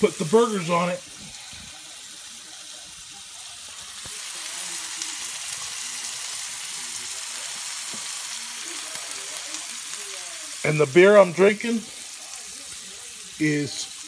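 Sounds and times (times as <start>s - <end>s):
meat and potatoes sizzling on griddle: 0.0s - 14.0s.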